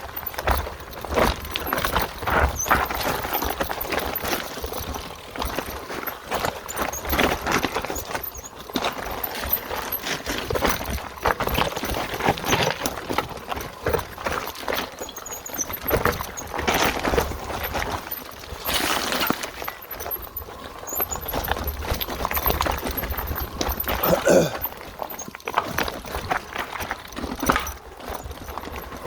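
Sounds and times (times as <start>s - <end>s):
bike rattling: 0.0s - 29.0s
tyres crunching on dirt and stones: 0.2s - 29.0s.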